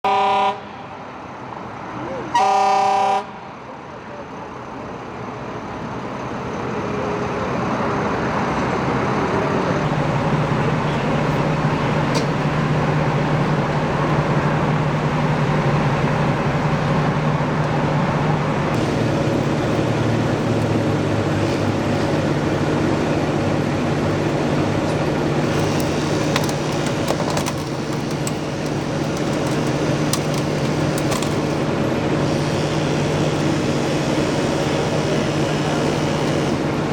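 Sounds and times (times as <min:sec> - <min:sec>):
traffic and engine noise: 0:00.1 - 0:36.9.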